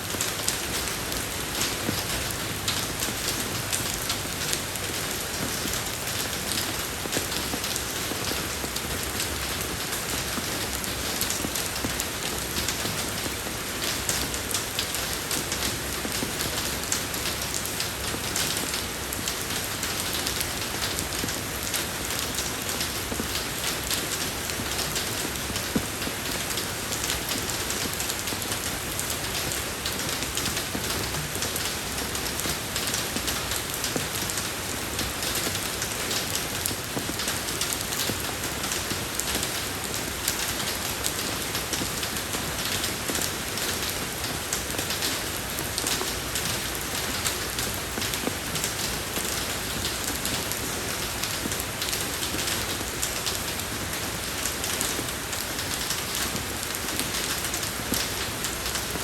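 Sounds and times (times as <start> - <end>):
rain falling on road: 0.0 - 59.0.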